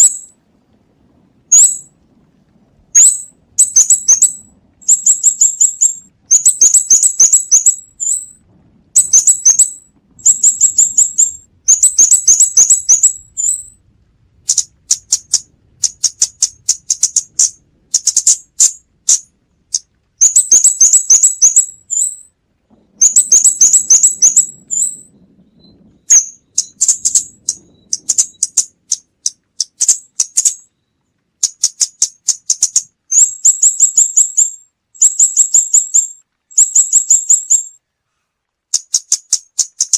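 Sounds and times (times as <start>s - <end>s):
bird calling with high ticking notes: 0.0s - 0.4s, 1.5s - 1.9s, 3.0s - 8.4s, 9.0s - 13.8s, 14.5s - 22.4s, 23.0s - 38.0s, 38.7s - 39.9s.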